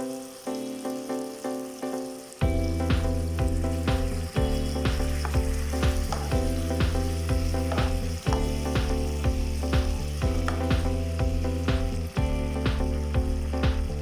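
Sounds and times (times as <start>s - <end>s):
background music with beat: 0.0s - 14.0s
oil sizzling in a pan: 0.0s - 14.0s.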